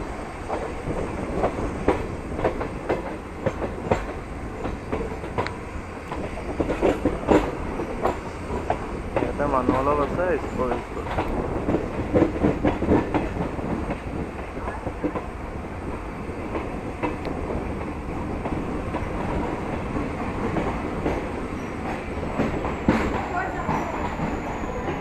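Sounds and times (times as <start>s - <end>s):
train rumble and rattle: 0.0s - 25.0s
wheels clicking over rail joints: 0.5s - 25.0s.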